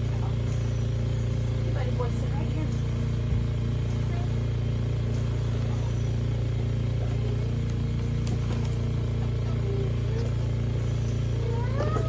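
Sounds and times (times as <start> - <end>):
low pulsing droning hum: 0.0 - 12.0.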